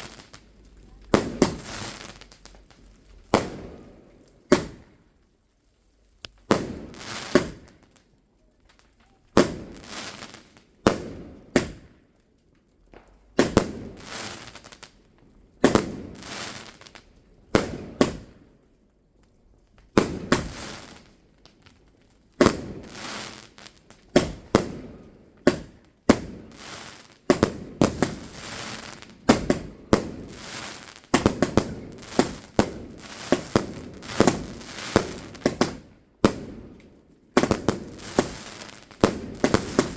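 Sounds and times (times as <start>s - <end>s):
fireworks bangs: 0.0s - 5.1s, 6.3s - 8.0s, 9.0s - 12.0s, 12.9s - 15.0s, 15.6s - 18.5s, 19.8s - 21.2s, 22.3s - 39.9s.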